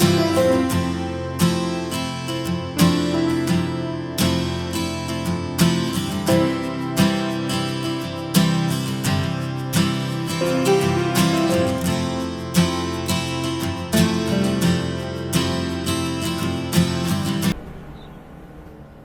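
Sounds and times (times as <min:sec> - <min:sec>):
acoustic guitar strumming chords: 0:00.0 - 0:17.6.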